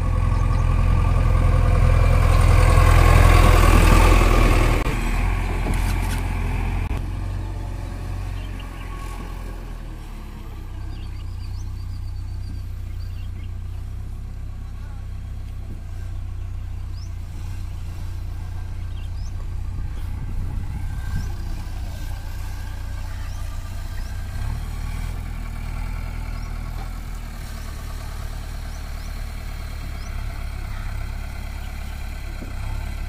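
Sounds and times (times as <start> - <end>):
backhoe loader engine idling: 0.0 - 33.0
tractor engine idling: 0.0 - 33.0.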